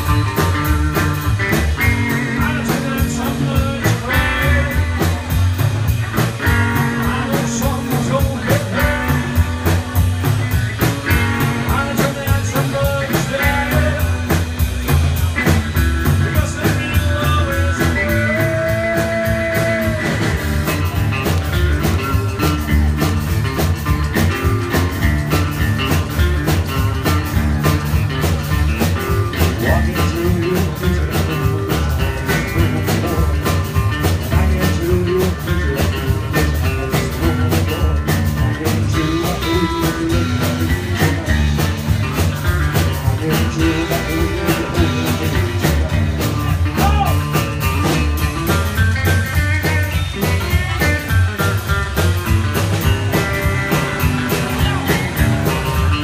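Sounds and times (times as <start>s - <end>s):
electric guitar: 0.0s - 56.0s
rock band playing live: 0.0s - 56.0s
steady drum beat: 0.0s - 56.0s.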